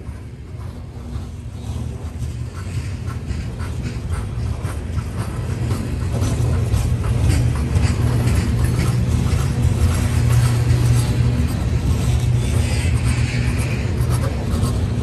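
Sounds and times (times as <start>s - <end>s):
train wheels clacking: 0.0s - 15.0s
train wheels rumbling on rails: 0.0s - 15.0s.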